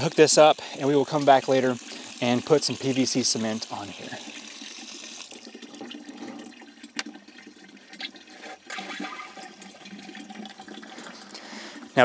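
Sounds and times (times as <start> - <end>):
water pouring and splashing: 0.0 - 12.0.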